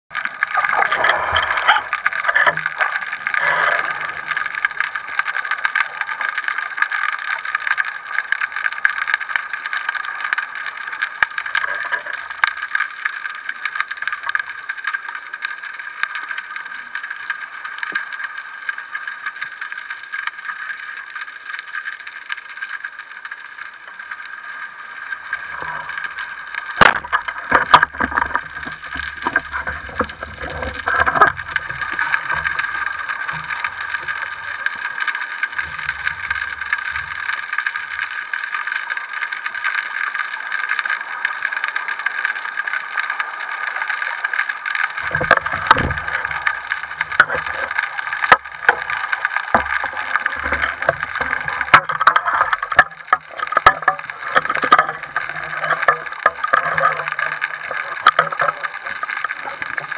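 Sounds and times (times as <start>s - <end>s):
underwater reef crackle: 0.0s - 59.9s.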